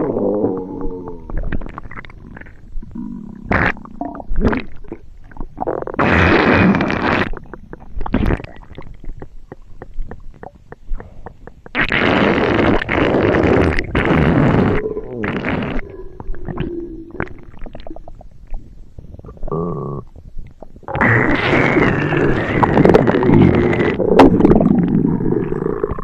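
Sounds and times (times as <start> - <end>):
stomach gurgling and rumbling: 0.0 - 26.0.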